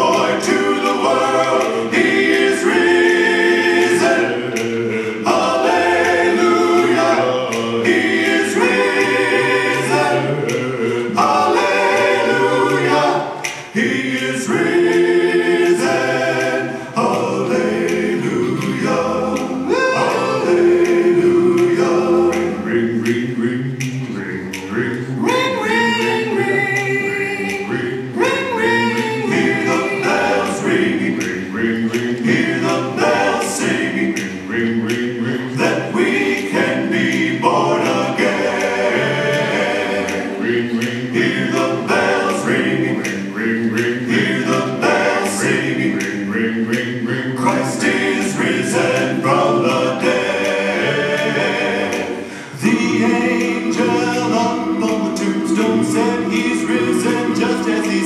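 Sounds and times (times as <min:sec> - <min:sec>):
voices singing gospel song: 0:00.0 - 0:58.0.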